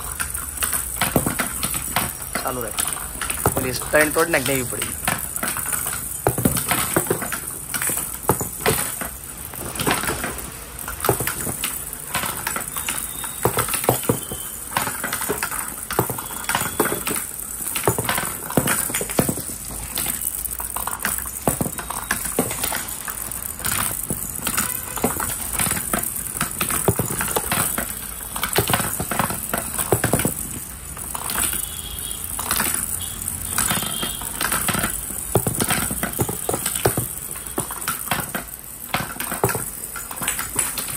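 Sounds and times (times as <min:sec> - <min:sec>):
plastic balls rattling on ramp: 0:00.0 - 0:40.9.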